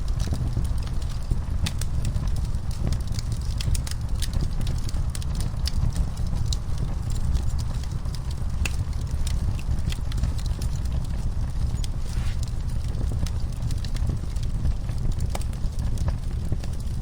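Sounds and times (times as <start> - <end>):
fire popping and snapping: 0.0 - 17.0
wood fire rumbling: 0.0 - 17.0.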